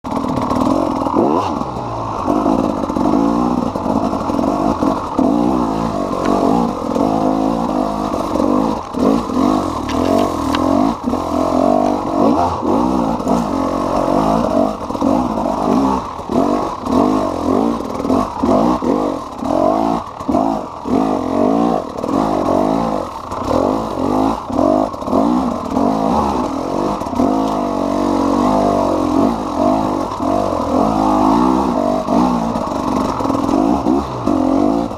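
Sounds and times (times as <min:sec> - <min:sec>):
two-stroke engine revving: 0:00.1 - 0:34.9.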